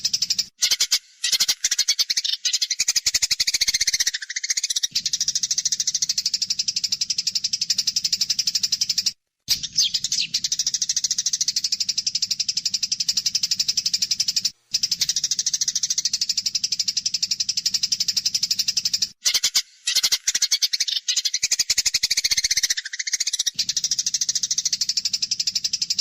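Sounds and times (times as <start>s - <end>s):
sparrows chirping rapidly: 0.0s - 26.0s.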